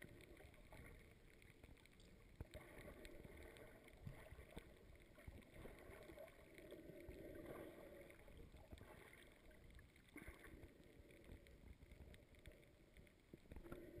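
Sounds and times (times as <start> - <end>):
muffled underwater rumble: 0.0 - 14.0.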